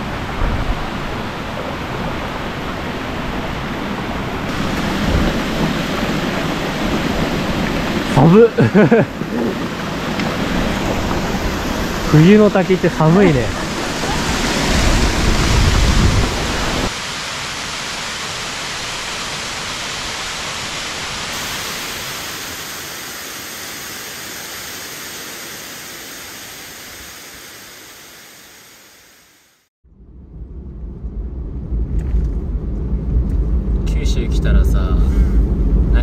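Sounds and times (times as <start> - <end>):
waterfall rushing: 0.0 - 29.7.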